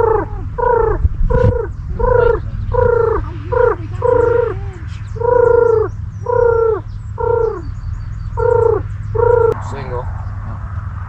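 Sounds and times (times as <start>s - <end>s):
large bird harsh calls: 0.0s - 10.4s
small birds chirping: 0.0s - 10.7s
steady low rumble: 0.0s - 11.0s.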